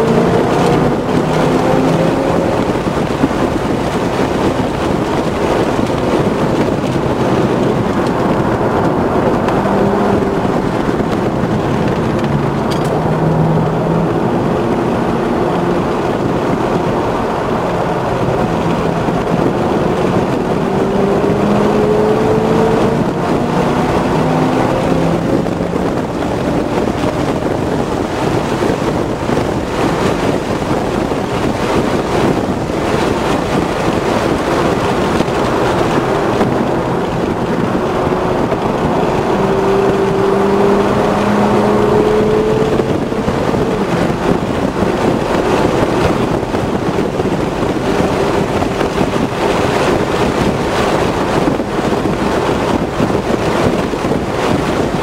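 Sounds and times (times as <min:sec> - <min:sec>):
car engine accelerating: 0:00.0 - 0:55.0
wind noise: 0:00.0 - 0:55.0.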